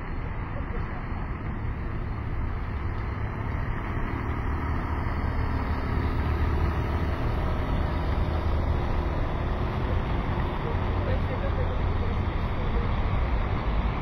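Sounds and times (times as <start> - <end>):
vehicles driving past: 0.0 - 14.0.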